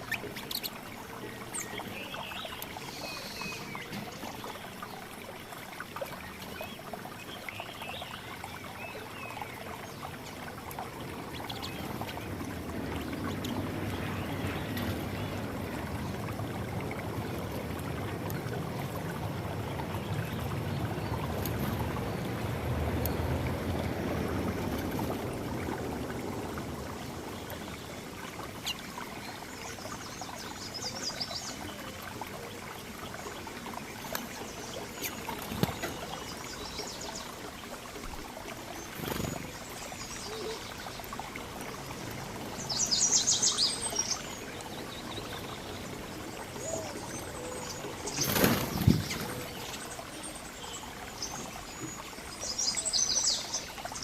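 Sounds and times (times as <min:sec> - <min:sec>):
water running and trickling: 0:00.0 - 0:54.0.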